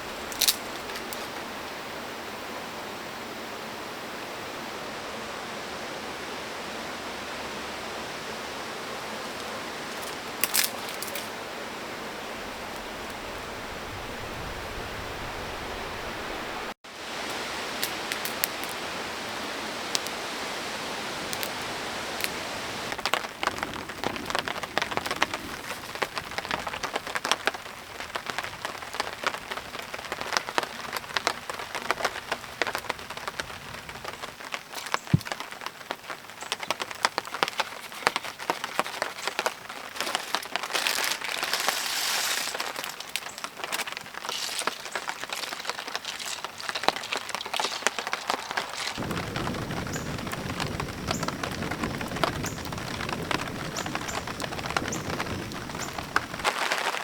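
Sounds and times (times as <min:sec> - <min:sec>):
rain pattering: 0:00.0 - 0:03.2, 0:05.0 - 0:57.0
steady hiss: 0:00.0 - 0:57.0.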